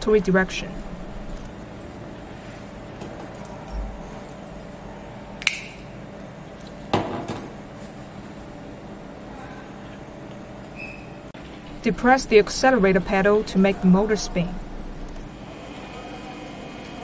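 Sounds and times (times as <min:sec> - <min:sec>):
faint steady hum: 0:00.0 - 0:06.9, 0:07.5 - 0:17.0.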